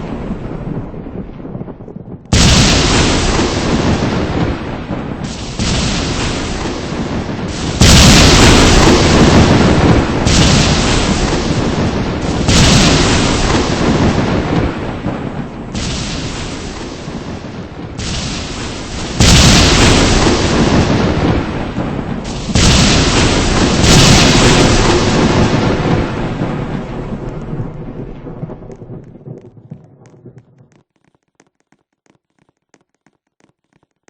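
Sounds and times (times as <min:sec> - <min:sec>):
loud booms with rumble: 0:00.0 - 0:30.7.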